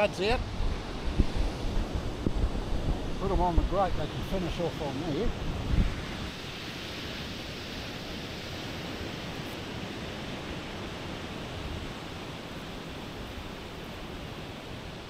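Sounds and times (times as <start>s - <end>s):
surf on a beach: 0.0s - 15.0s
wind: 0.0s - 15.0s.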